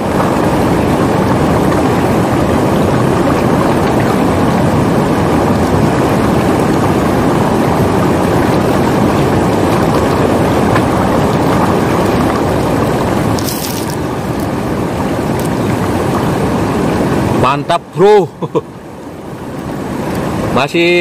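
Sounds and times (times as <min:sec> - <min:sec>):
river water rushing over stones: 0:00.0 - 0:21.0.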